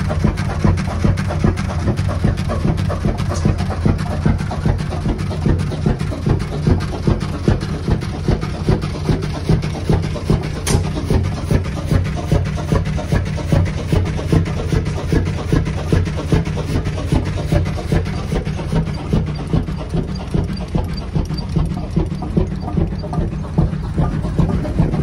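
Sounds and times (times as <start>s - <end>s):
mechanical clatter: 0.0s - 25.0s
stationary engine running: 0.0s - 25.0s.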